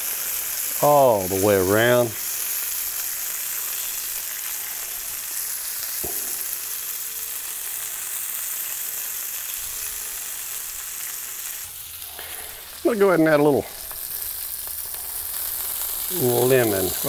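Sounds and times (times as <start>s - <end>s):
fish sizzling on a griddle: 0.0s - 17.0s.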